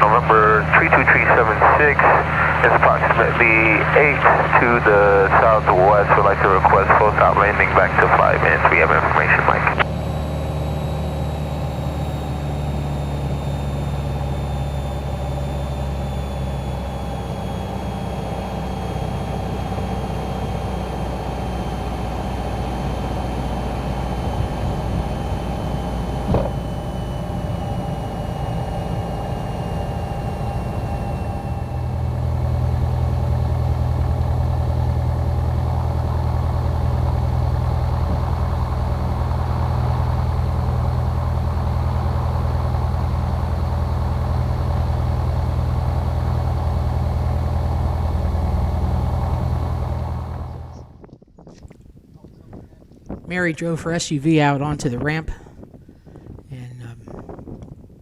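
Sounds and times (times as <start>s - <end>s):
airplane piston engine running: 0.0s - 51.0s
falling whine: 0.0s - 51.1s.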